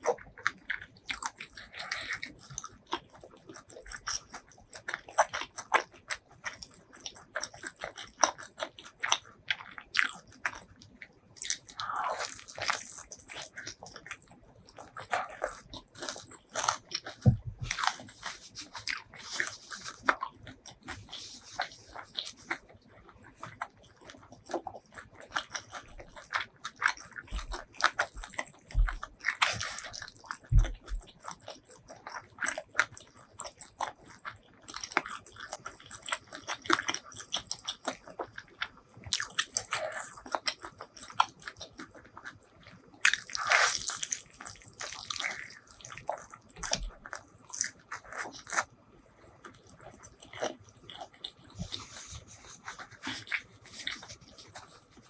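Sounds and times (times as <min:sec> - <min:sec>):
crunchy biting and chewing: 0:00.0 - 0:55.0.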